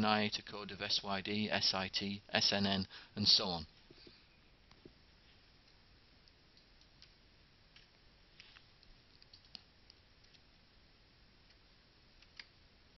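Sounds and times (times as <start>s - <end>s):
faint steady hiss: 0.0s - 12.9s.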